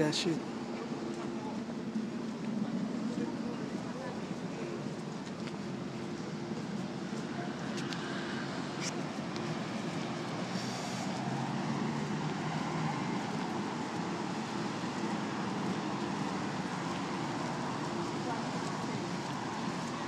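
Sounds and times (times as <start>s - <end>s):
street traffic hum: 0.0s - 20.0s.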